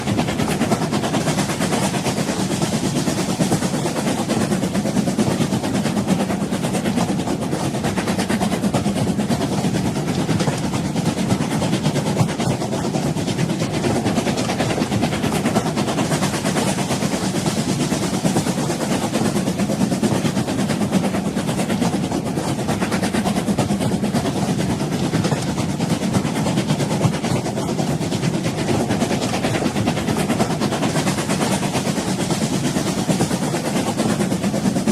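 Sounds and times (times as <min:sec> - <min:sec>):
train rumbling and rattling: 0:00.0 - 0:34.9.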